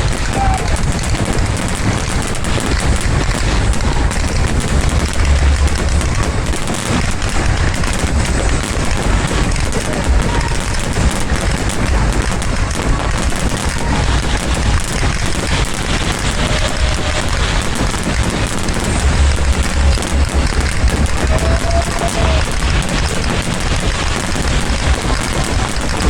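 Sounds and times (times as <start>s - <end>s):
deep rumble of booms: 0.0s - 26.0s
fireworks bangs and crackles: 0.0s - 26.0s.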